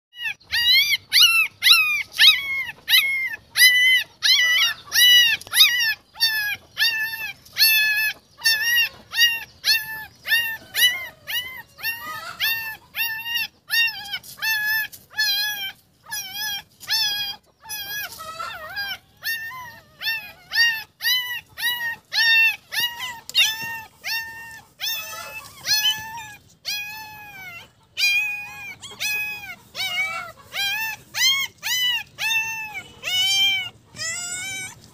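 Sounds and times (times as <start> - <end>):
puppies whimpering: 0.2 - 34.9.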